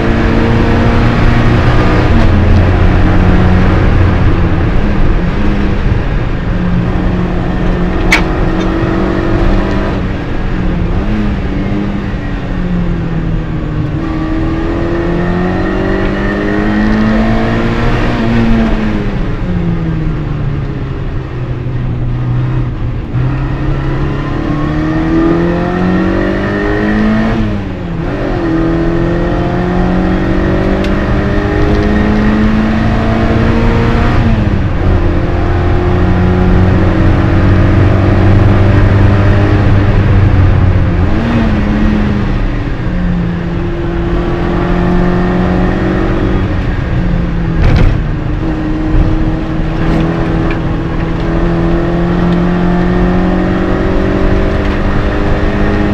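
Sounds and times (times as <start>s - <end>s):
race car engine accelerating: 0.0s - 20.0s, 22.3s - 55.9s.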